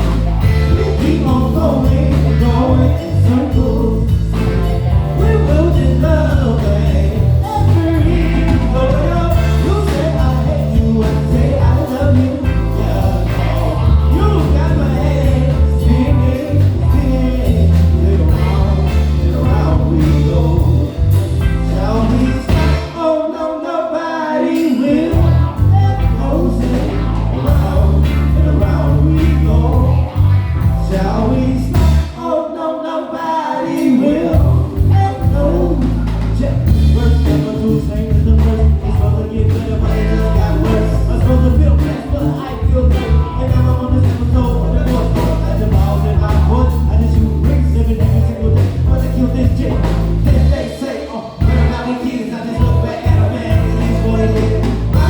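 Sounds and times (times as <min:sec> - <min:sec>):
electric bass: 0:00.0 - 0:23.1, 0:24.8 - 0:32.3, 0:33.8 - 0:55.0
drums: 0:00.0 - 0:23.2, 0:24.6 - 0:32.3, 0:33.7 - 0:55.0
keyboards: 0:00.0 - 0:23.8, 0:24.5 - 0:32.5, 0:33.2 - 0:55.0.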